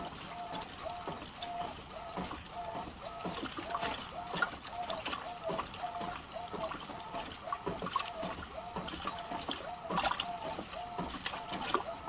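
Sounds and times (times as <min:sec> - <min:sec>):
washing machine running: 0:00.0 - 0:12.0
water sloshing in drum: 0:00.0 - 0:12.0.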